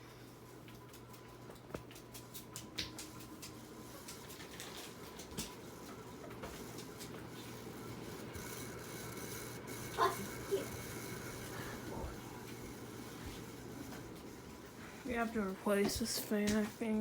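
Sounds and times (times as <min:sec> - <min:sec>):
ceiling fan humming: 0:00.0 - 0:17.0
scraping clicking from fan: 0:00.6 - 0:17.0.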